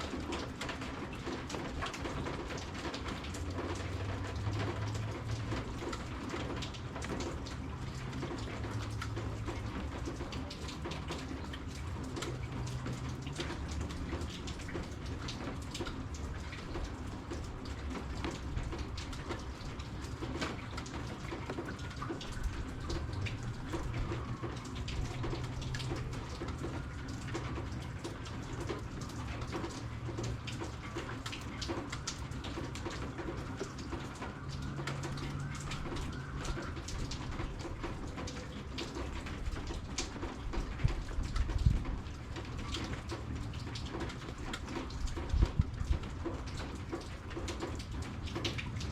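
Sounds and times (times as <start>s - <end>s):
rain falling: 0.0s - 48.9s
raindrops ticking: 0.0s - 48.9s.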